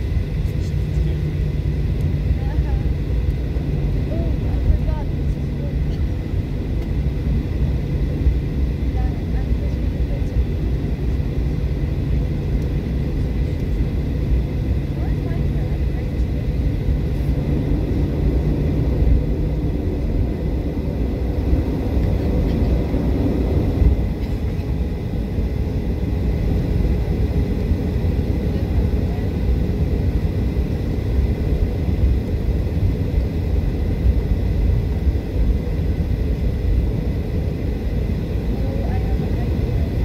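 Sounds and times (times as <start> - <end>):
jet engines at taxi power: 0.0 - 40.0
low hum: 0.0 - 40.0
steady low rumble: 0.0 - 40.0.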